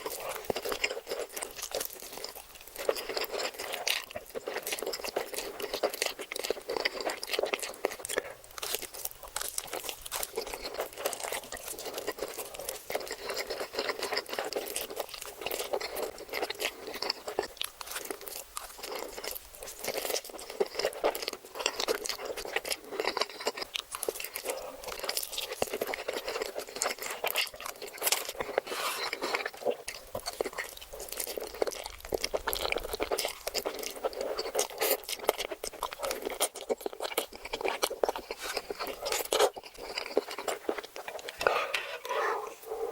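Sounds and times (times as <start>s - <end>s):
crunching and chewing: 0.0s - 42.9s.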